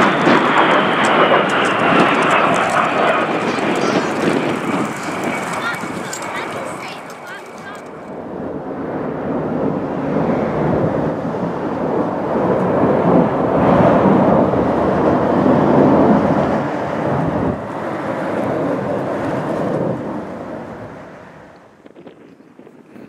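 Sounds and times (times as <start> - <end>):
aircraft flying over: 0.0 - 23.0.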